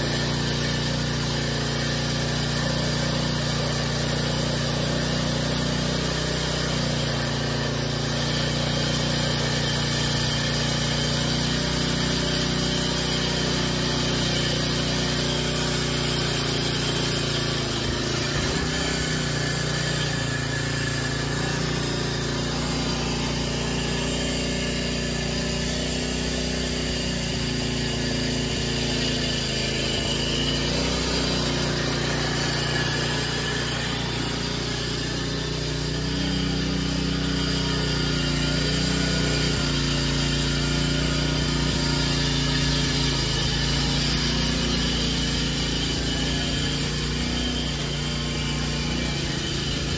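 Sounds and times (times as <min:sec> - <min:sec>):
tiller engine running: 0:00.0 - 0:49.9.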